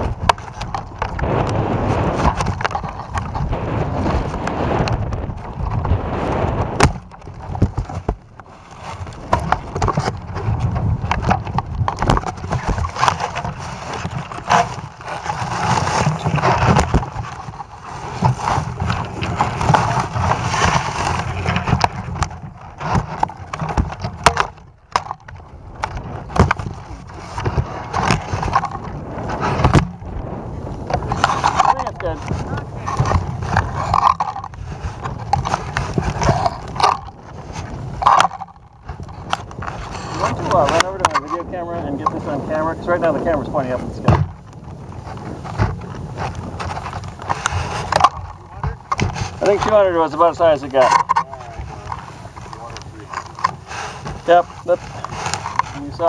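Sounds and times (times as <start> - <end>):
constant low rumble: 0.0 - 56.0
handling noise rubbing and knocking: 0.0 - 56.0.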